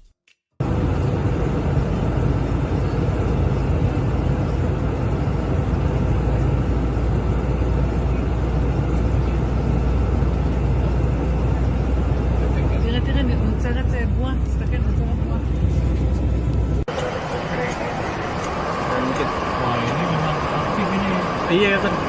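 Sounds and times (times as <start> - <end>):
aircraft cockpit drone: 0.6 - 22.0.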